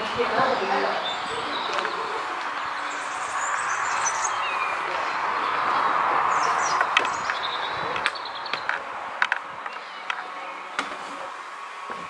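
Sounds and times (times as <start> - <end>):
birds chirping: 0.0 - 12.0
steady rushing noise: 0.0 - 12.0.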